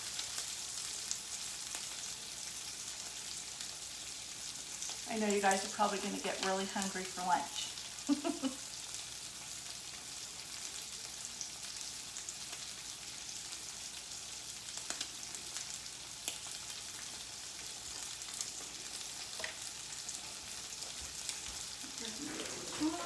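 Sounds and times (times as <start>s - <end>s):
steaks sizzling in a pan: 0.0s - 23.0s.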